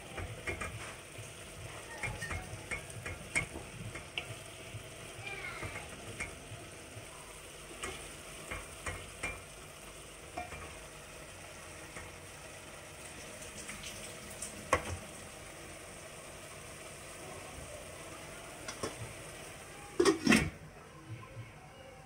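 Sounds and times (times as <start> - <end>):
stew sizzling in a pan: 0.0 - 20.6.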